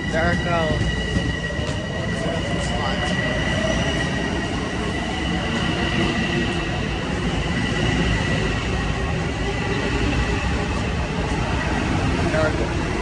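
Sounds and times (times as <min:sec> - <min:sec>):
high train whine: 0:00.0 - 0:13.0
train rumbling past: 0:00.0 - 0:13.0.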